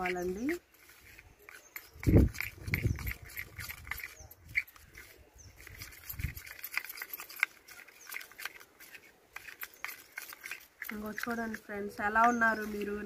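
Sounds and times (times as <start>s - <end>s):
spoon scraping steel bowl: 0.0s - 13.0s.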